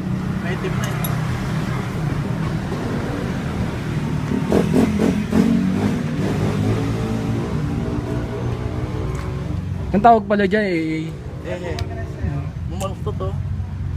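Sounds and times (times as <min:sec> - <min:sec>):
vehicle engine revving: 0:00.0 - 0:13.3.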